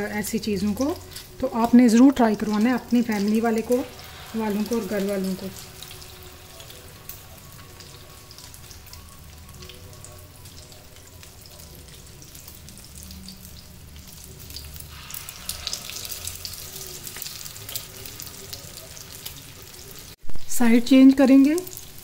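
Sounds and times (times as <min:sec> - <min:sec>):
oil sizzling and crackling in a pan: 0:00.0 - 0:20.2, 0:20.9 - 0:22.0.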